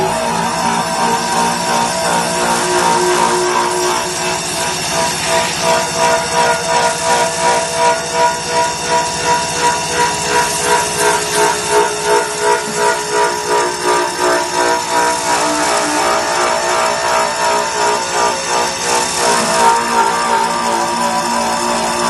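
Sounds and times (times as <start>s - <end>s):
polishing wheel whining on metal: 0.0s - 22.0s.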